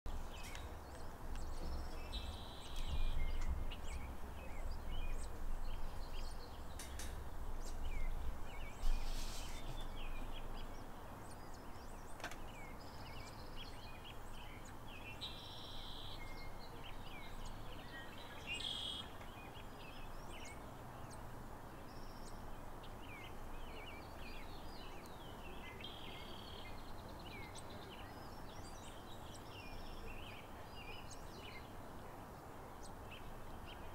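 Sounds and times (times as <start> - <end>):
outdoor noise: 0.1 - 33.9.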